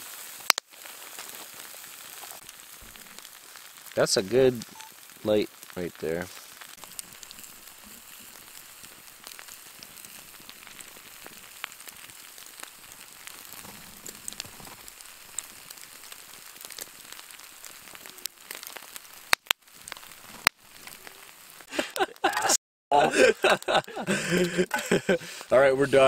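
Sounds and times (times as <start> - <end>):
steaks sizzling on grill: 0.0 - 22.3, 23.1 - 26.0
campfire crackling and popping: 0.0 - 26.0.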